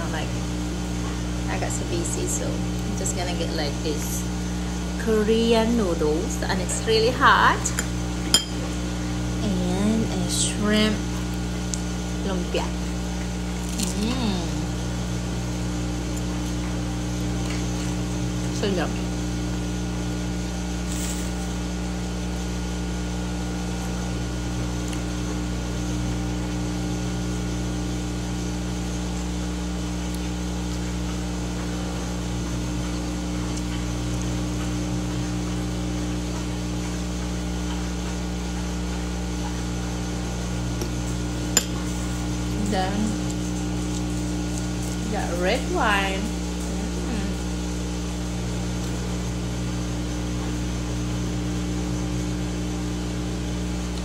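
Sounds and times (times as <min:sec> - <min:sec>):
appliance mechanical hum: 0:00.0 - 0:54.0.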